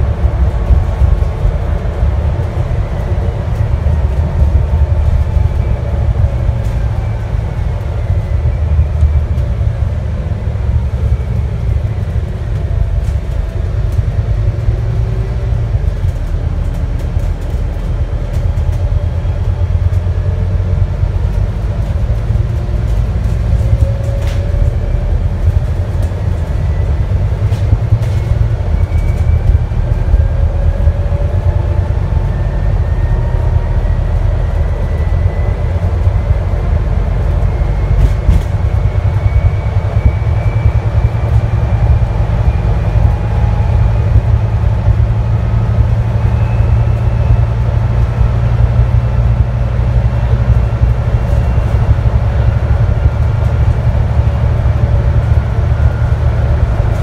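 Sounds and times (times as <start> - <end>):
bus diesel engine rumbling: 0.0 - 57.0
faint whine rising in pitch: 0.0 - 57.0
road noise: 0.0 - 57.0.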